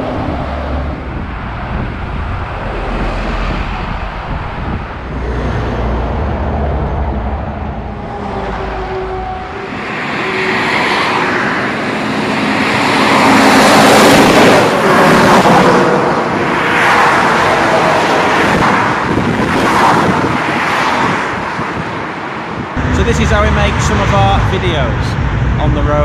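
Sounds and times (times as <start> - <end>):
highway traffic passing: 0.0 - 26.0.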